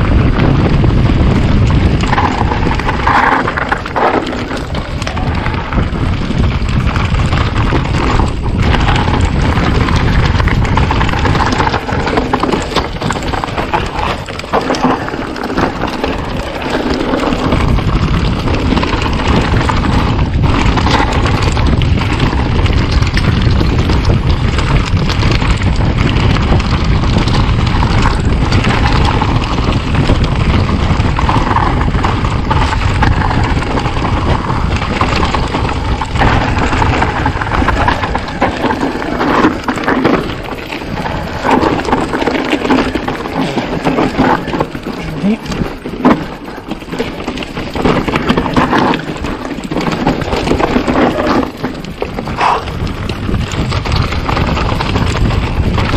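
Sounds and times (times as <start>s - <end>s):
bike rattling and knocking: 0.0s - 55.9s
wind rumble on microphone: 0.0s - 55.9s.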